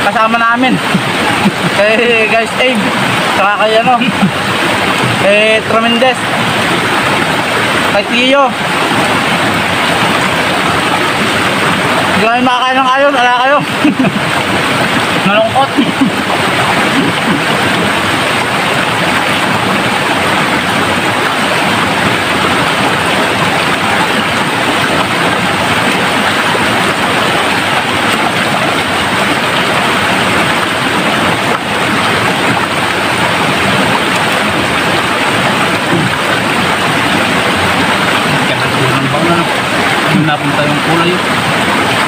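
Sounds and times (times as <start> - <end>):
stream rushing over boulders: 0.0 - 42.0.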